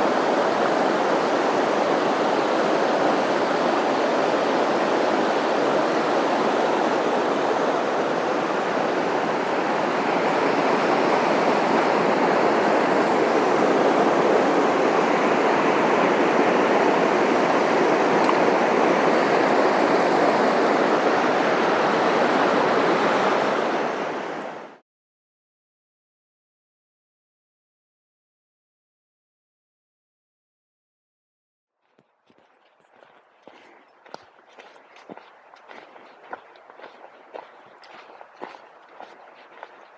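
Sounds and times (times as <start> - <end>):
stream water rushing: 0.0 - 24.7, 32.3 - 39.9.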